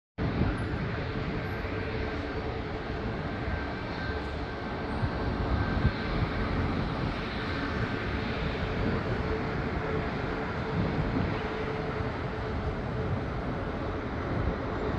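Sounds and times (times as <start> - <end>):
jet engines rumbling with whine: 0.2 - 14.9.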